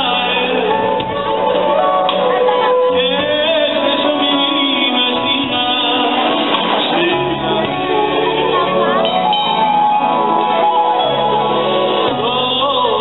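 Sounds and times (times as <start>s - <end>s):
man singing: 0.0s - 9.2s, 11.5s - 13.0s
drums: 0.0s - 13.0s
live band music: 0.0s - 13.0s.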